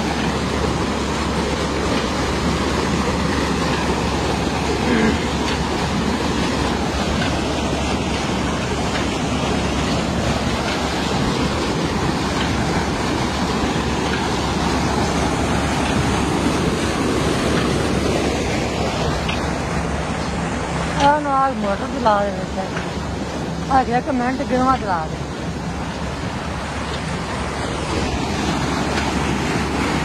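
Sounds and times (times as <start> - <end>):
low machine hum: 0.0 - 30.0
water gushing into a tank: 0.0 - 30.0.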